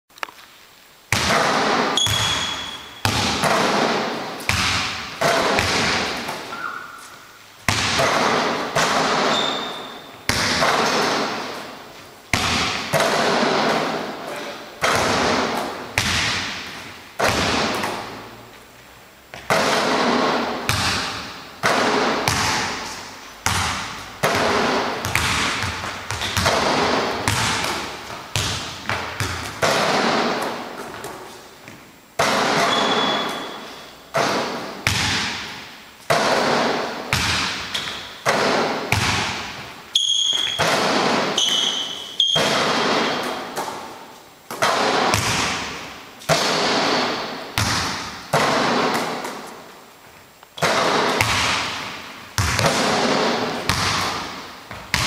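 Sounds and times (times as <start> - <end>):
basketballs bouncing on floor: 1.1 - 11.7, 12.3 - 14.2, 14.8 - 49.7, 50.6 - 55.0
ball hitting backboard and rim: 1.1 - 14.2, 14.8 - 18.3, 19.3 - 49.7, 50.6 - 55.0.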